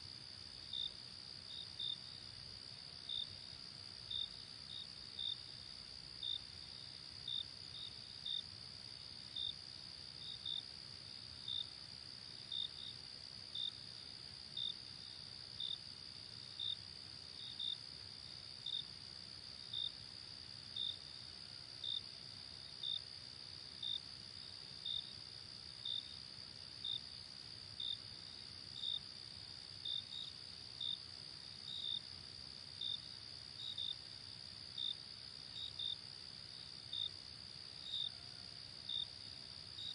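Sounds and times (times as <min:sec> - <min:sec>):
loud cricket chirp: 0:00.0 - 0:39.9.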